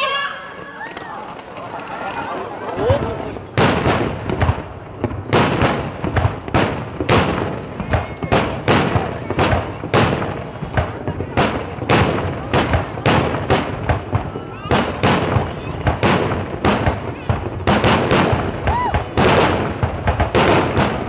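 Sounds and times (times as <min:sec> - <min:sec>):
fireworks crackle and rumble: 0:00.5 - 0:21.0
fireworks bangs: 0:00.9 - 0:21.0.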